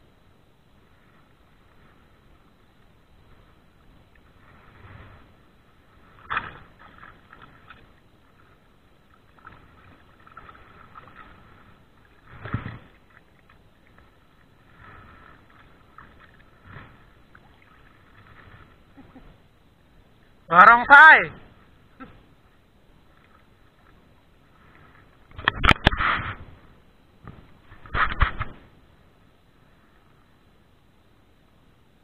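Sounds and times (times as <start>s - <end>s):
water sloshing and splashing: 0.9s - 20.3s, 21.5s - 28.8s.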